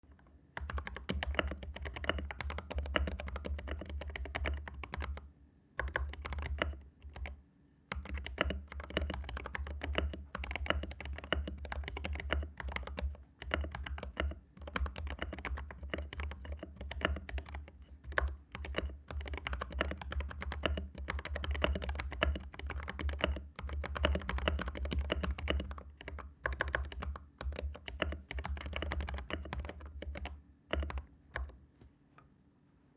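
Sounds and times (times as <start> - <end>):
fast mechanical keyboard typing: 0.6 - 5.2, 5.8 - 31.6.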